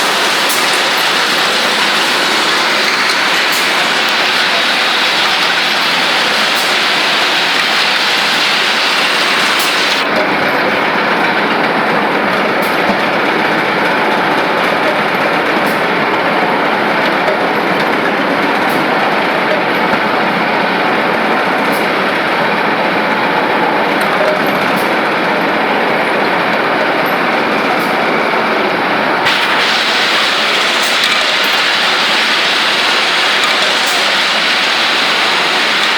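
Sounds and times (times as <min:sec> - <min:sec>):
pipe-cutting lathe running: 0:00.0 - 0:35.9.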